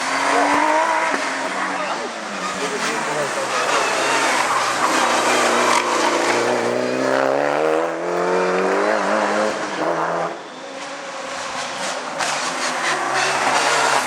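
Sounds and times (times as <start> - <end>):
race car accelerating hard: 0.0 - 14.0.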